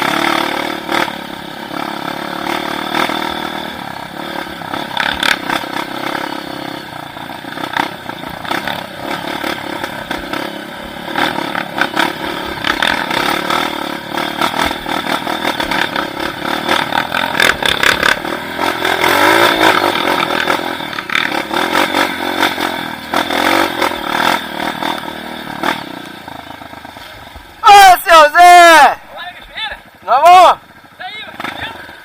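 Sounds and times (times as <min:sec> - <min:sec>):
vehicle engine running: 0:00.0 - 0:27.6
vehicle rattling: 0:00.0 - 0:27.6.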